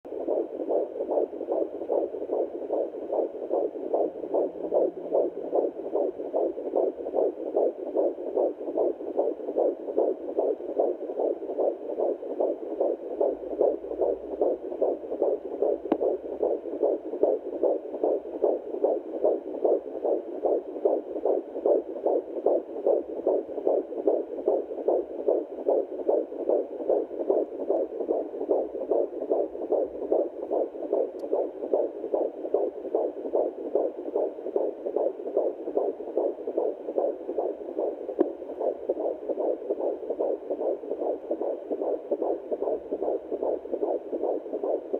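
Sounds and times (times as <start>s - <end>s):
fetal heartbeat through doppler speaker: 0.0s - 44.9s.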